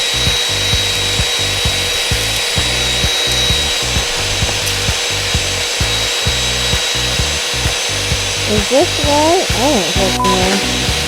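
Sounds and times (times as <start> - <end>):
drill wire brush grinding metal: 0.0 - 11.0.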